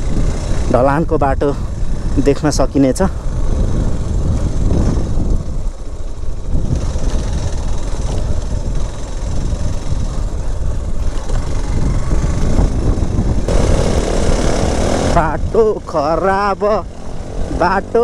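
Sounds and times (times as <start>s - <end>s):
motorcycle engine rumble: 0.0s - 18.0s.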